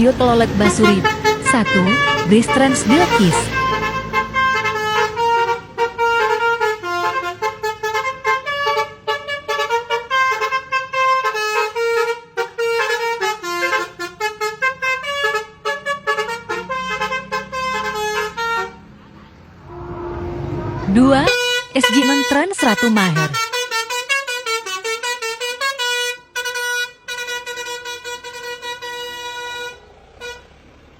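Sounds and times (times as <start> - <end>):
multi-tone bus air horn tune: 0.0 - 30.9.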